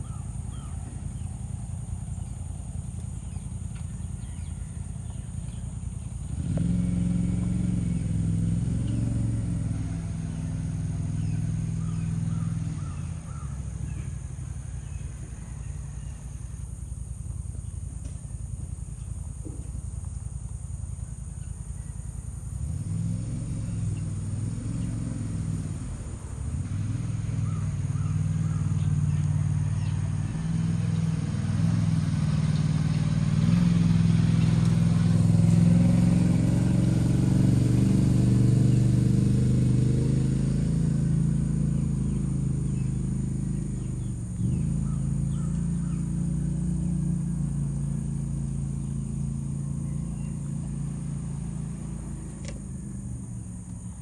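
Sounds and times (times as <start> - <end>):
motor engine running: 0.0 - 54.0.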